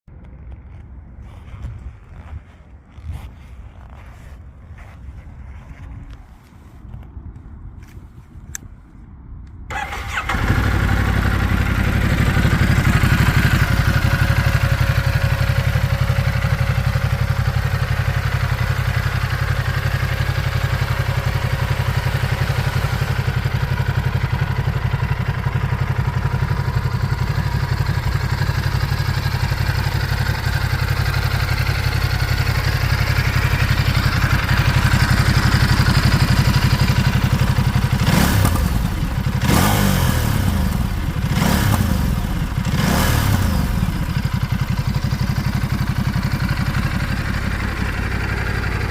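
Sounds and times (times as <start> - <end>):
motorcycle engine starting and idling: 9.7 - 48.9.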